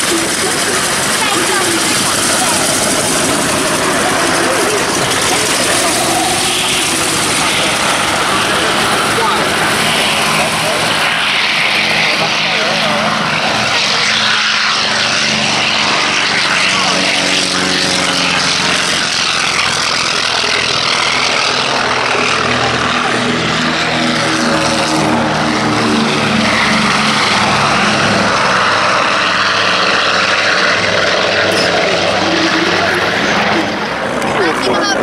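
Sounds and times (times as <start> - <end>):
propeller aircraft engines droning: 0.0 - 35.0.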